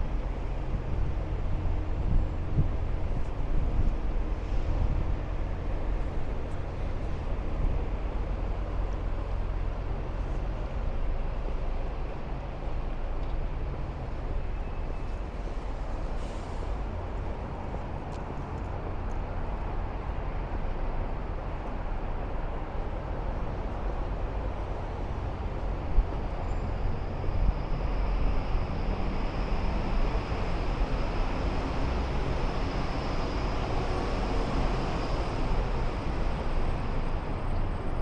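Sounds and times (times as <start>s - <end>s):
traffic rumble: 0.0s - 38.0s.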